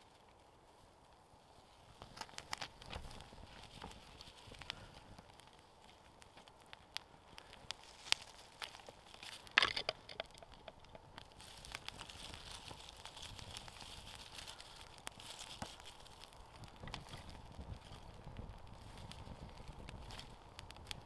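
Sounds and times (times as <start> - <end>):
campfire crackling and hissing: 0.0 - 21.0
dry twigs crunching: 0.0 - 21.0.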